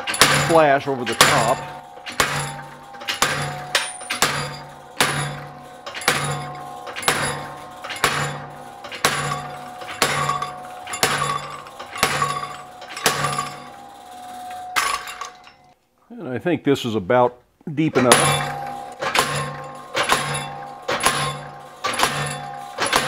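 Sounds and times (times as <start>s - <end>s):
hammer blows ringing on steel: 0.0s - 15.7s, 18.0s - 23.0s.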